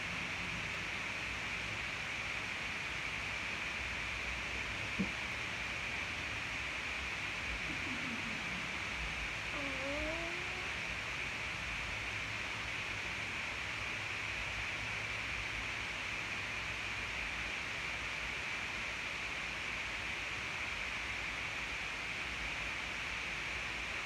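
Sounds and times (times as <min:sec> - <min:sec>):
steady room hiss: 0:00.0 - 0:24.0.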